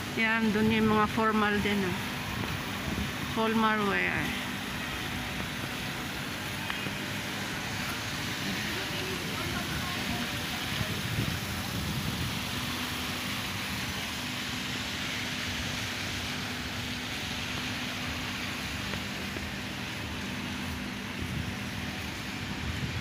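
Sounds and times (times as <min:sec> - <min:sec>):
steady hiss: 0:00.0 - 0:23.0
steady mechanical hum: 0:00.0 - 0:23.0.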